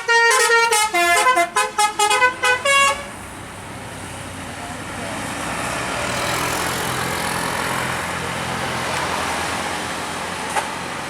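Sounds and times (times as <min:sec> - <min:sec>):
bus engine humming: 0:00.0 - 0:11.0
road noise rushing: 0:00.0 - 0:11.0.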